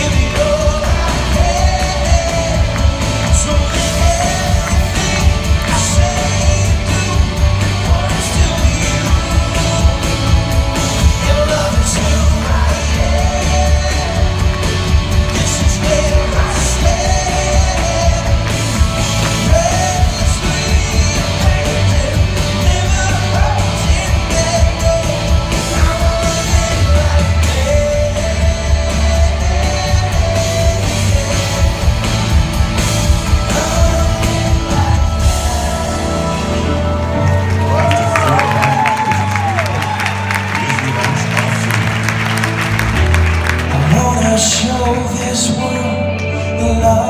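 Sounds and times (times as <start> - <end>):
drums: 0.0 - 47.0
heavy bass: 0.0 - 47.0
live rock band playing: 0.0 - 47.0.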